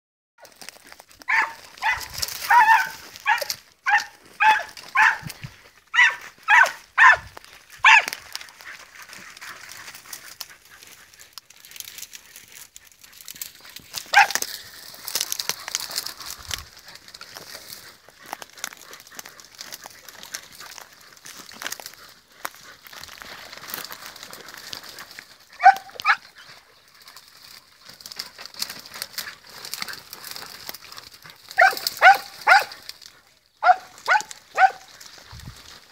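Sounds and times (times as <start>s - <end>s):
dry scrub rustling: 0.4s - 35.9s
dogs yelping: 1.2s - 11.2s, 13.2s - 22.9s, 25.2s - 32.9s, 33.6s - 35.2s.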